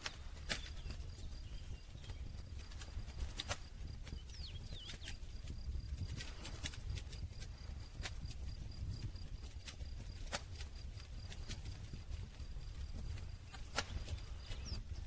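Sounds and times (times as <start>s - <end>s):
campfire crackling and popping: 0.0s - 15.0s
low rumble of burning fire: 0.0s - 15.0s.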